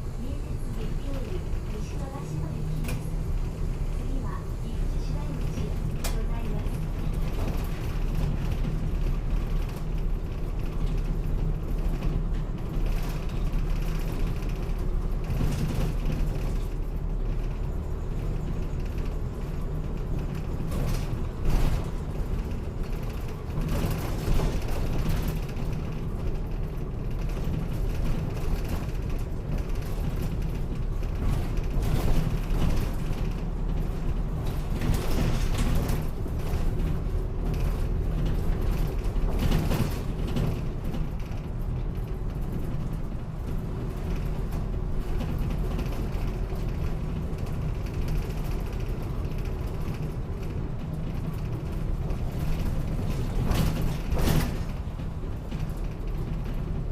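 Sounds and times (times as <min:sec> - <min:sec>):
bus body creaking and rattling: 0:00.0 - 0:56.9
bus engine and road rumble: 0:00.0 - 0:56.9.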